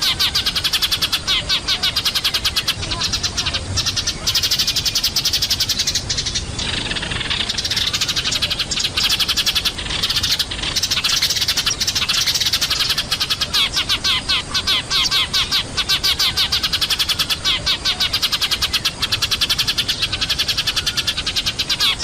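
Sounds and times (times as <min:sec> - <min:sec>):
flock of sparrows chirping: 0:00.0 - 0:22.0.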